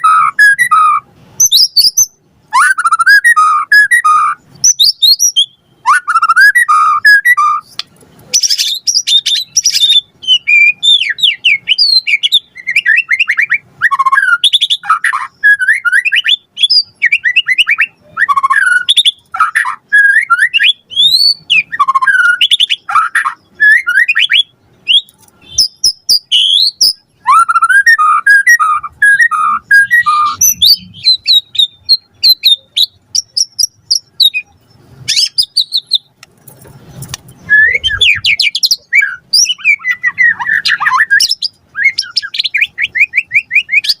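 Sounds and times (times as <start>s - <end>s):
songbird singing whistles and trills: 0.0s - 36.2s, 37.4s - 44.0s.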